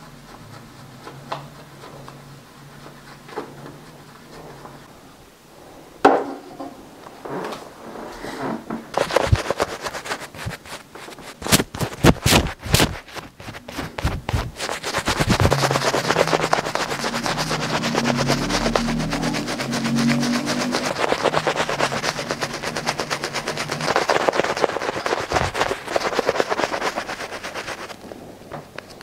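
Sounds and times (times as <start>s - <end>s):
shaving brush scratching stubble: 0.0s - 4.9s, 9.0s - 28.0s.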